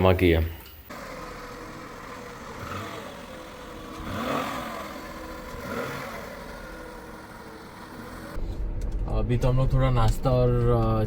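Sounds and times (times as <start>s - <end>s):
vehicle engine running: 0.9s - 11.0s.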